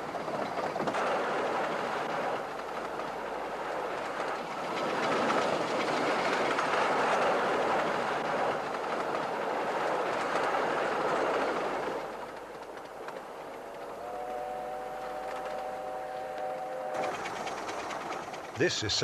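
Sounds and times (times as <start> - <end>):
wheels clicking on rails: 0.0 - 18.6
miniature train carriages rumbling: 0.0 - 18.7.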